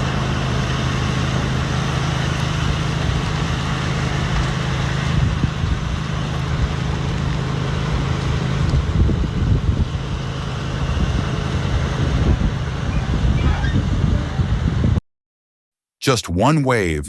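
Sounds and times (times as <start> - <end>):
road or wind noise hiss: 0.0 - 15.0
vehicle engine humming: 0.0 - 15.0.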